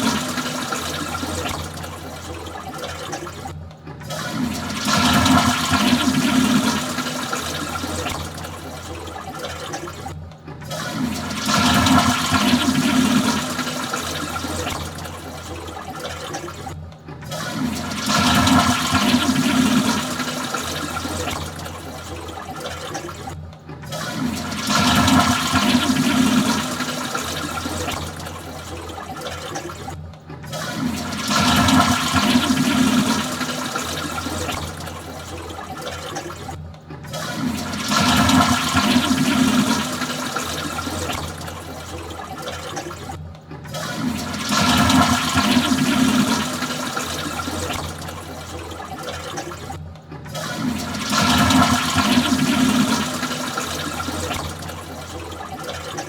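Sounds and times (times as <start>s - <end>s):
toilet flushing: 0.0s - 56.0s.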